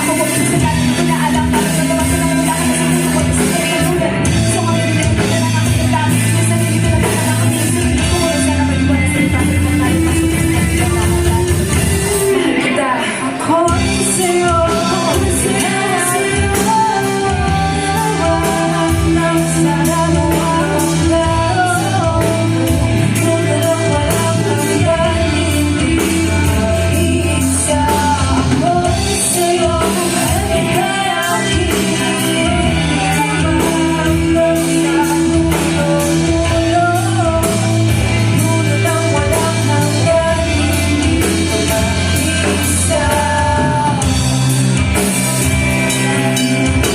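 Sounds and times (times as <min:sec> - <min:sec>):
bass: 0:00.0 - 0:46.9
drums: 0:00.0 - 0:46.9
guitar: 0:00.0 - 0:46.9
person singing: 0:00.0 - 0:46.9.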